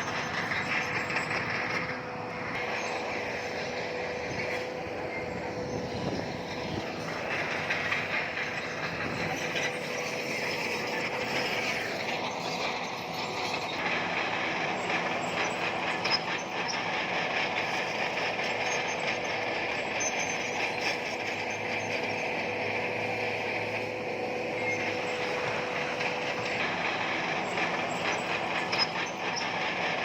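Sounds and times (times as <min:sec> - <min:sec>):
crawler tracks clattering: 0:00.0 - 0:30.0
diesel engine running: 0:00.0 - 0:30.0.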